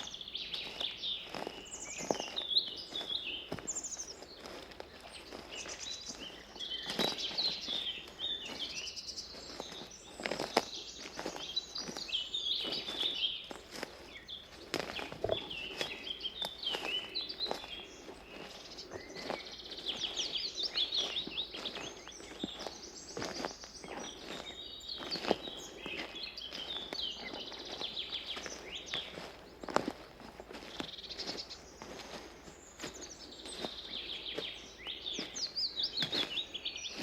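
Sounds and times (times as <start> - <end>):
footsteps on forest path: 0.0 - 37.0
songbirds chirping and singing: 0.0 - 37.0.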